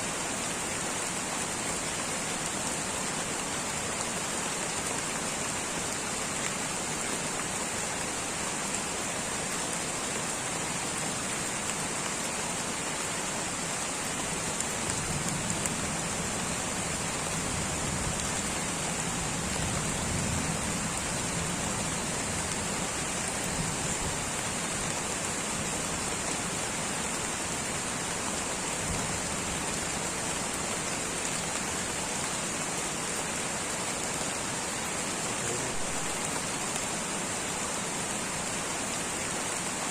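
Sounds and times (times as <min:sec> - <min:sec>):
light rain hissing: 0:00.0 - 0:39.9.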